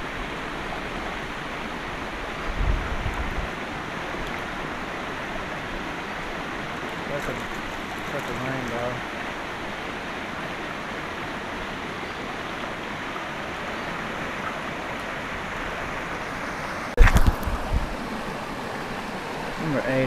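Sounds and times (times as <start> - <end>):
stream flowing over rocks: 0.0 - 20.0.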